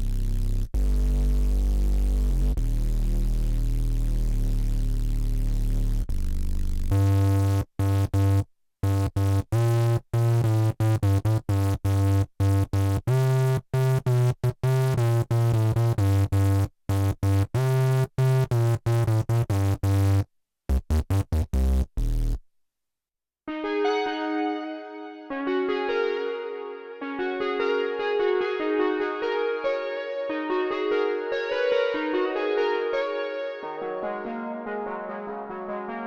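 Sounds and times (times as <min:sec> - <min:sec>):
synthesizer punchy bass notes: 0:00.0 - 0:22.4, 0:23.8 - 0:36.0.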